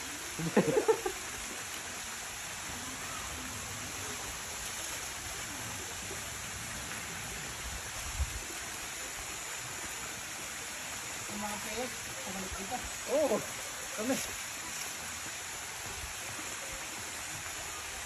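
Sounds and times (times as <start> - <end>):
waterfall splashing into pool: 0.0 - 18.0.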